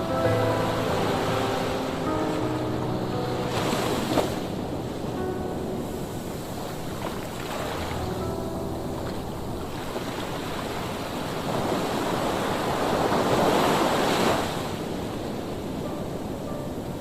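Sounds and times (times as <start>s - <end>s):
surf washing: 0.0s - 17.0s.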